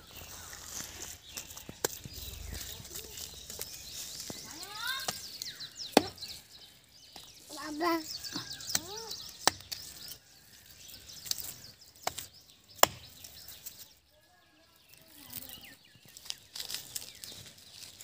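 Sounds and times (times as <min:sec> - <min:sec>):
dried dung cakes cracking: 0:00.0 - 0:13.9, 0:14.8 - 0:18.0.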